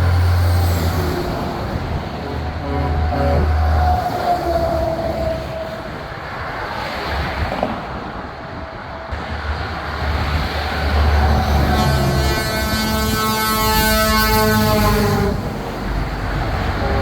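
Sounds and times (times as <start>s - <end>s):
diesel trucks rumbling past: 0.0s - 17.0s
road and tyre noise: 0.0s - 17.0s.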